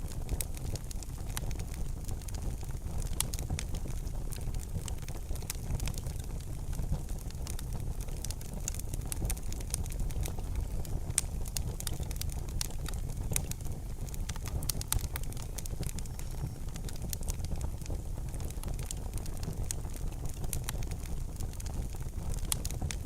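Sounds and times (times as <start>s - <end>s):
low rumble of burning: 0.0s - 23.0s
wood fire crackling and popping: 0.0s - 23.0s.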